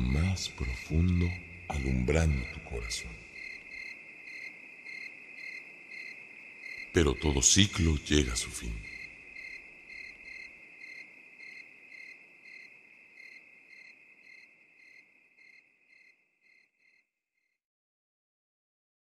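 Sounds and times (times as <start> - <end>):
insects trilling: 0.0 - 17.1
insect chirps: 0.0 - 17.6.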